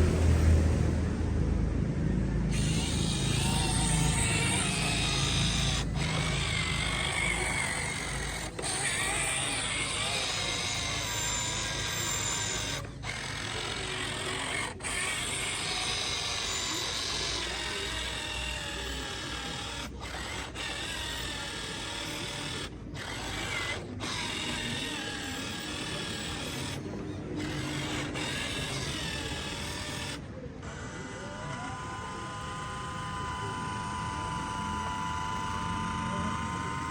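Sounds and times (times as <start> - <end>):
small electric motors whirring: 2.5 - 36.9.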